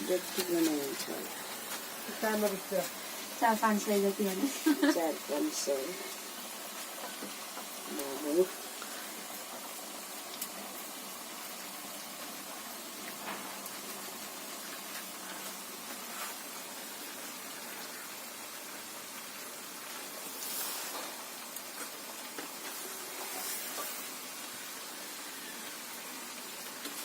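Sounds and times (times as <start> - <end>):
fritters sizzling in hot oil: 0.0 - 27.0.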